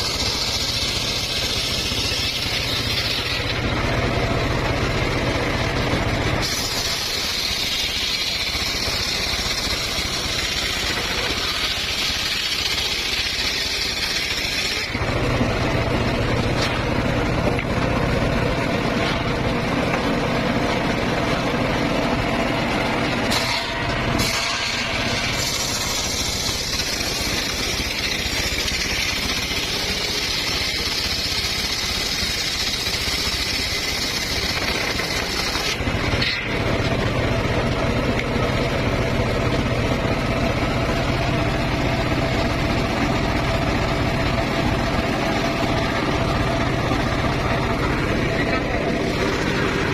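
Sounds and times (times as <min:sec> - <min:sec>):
circular sawmill running: 0:00.0 - 0:49.9.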